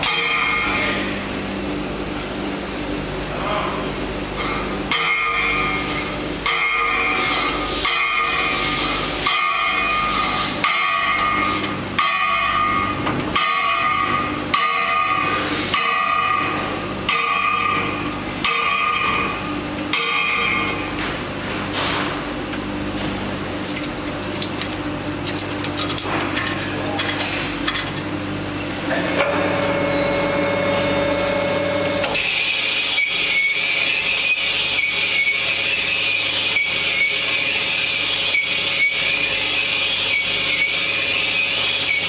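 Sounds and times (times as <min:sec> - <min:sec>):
metalworking machine hum: 0:00.0 - 0:42.0.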